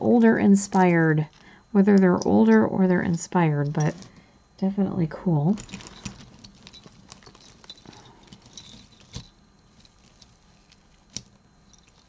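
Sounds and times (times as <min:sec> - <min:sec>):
jewelry clicking and rustling: 0:00.5 - 0:04.3, 0:05.5 - 0:12.0.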